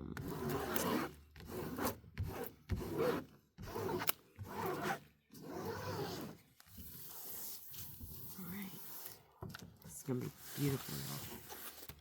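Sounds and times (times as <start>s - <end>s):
canvas rustling and scraping: 0.3s - 9.2s, 10.1s - 12.0s.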